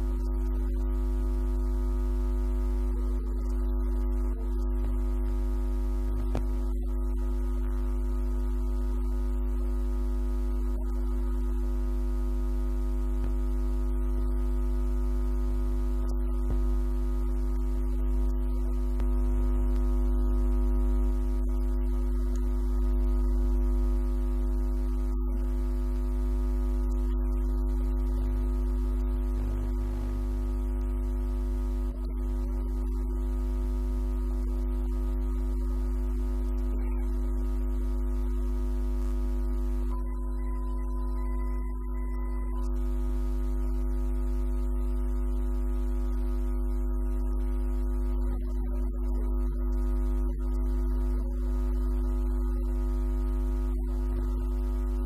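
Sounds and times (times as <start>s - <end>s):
loud electrical hum: 0.0s - 55.0s.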